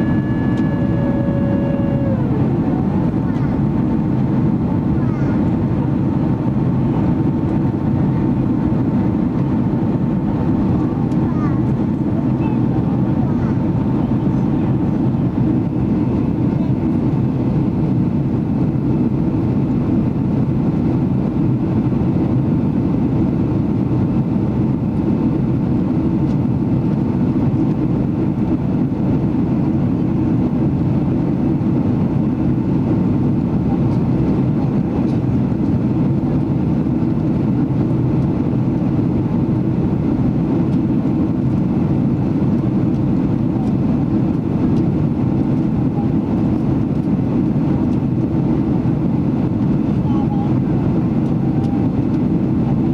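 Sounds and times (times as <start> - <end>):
engine and airflow rush: 0.0 - 52.9.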